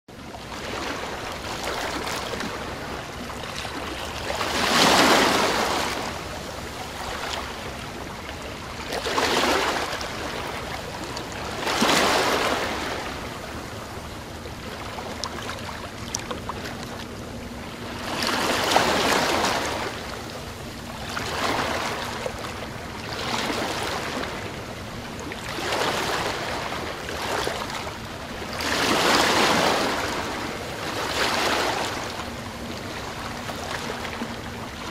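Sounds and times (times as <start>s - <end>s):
ocean waves washing in: 0.1s - 34.9s.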